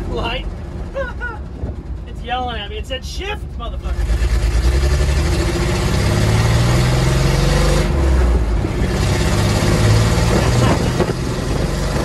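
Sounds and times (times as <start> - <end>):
pickup engine accelerating: 0.0 - 12.0.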